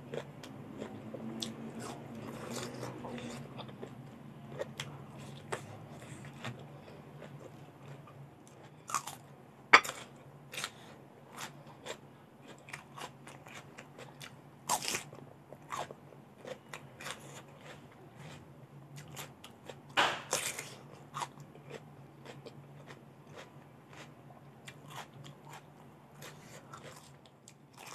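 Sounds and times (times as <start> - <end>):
crunchy chewing of vegetables: 0.0 - 27.9.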